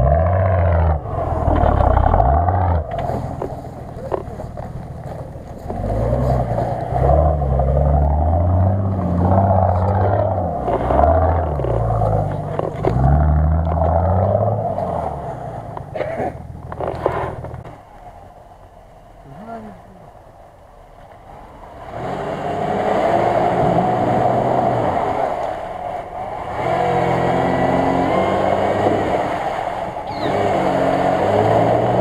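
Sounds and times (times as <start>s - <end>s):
suv engine revving: 0.0s - 32.0s.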